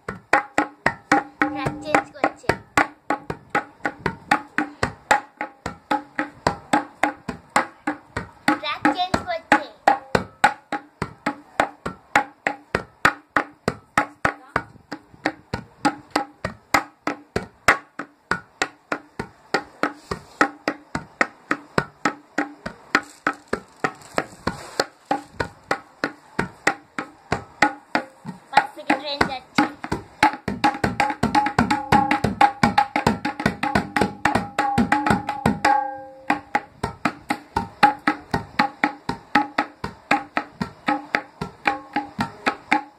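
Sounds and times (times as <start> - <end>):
tabla drumming: 0.0 - 42.9.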